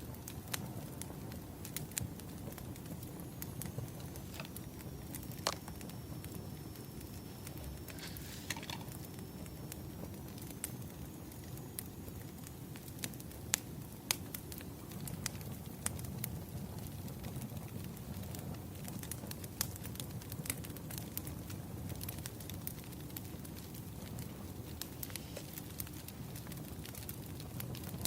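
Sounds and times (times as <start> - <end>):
fire crackling and popping: 0.0 - 28.0
low fire rumble: 0.0 - 28.0.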